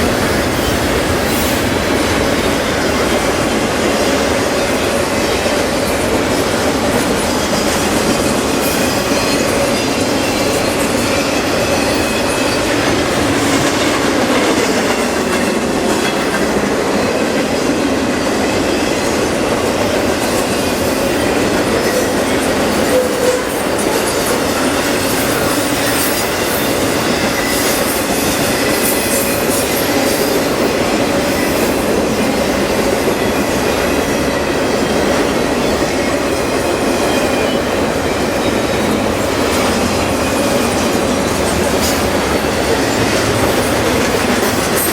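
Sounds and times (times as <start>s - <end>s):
train wheels clacking on rails: 0.0s - 44.9s.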